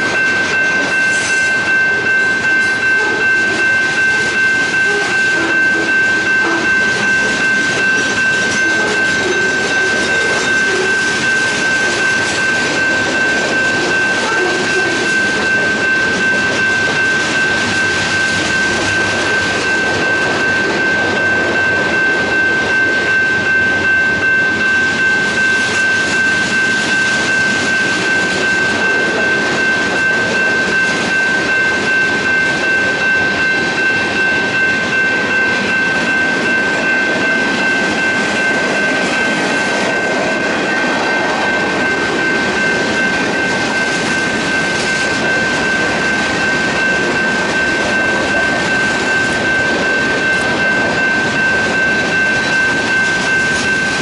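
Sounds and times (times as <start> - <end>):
freight train rolling past: 0.0 - 54.0
high-pitched tone: 0.0 - 54.0.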